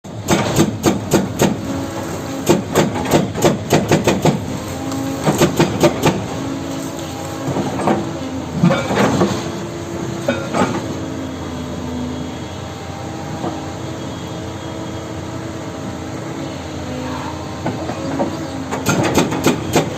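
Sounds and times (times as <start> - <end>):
excavator diesel engine droning: 0.1 - 19.9.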